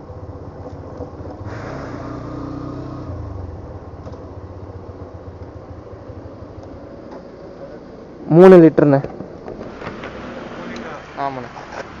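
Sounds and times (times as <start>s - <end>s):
engine idling: 0.0s - 12.0s
passing engine and road noise: 0.0s - 12.0s.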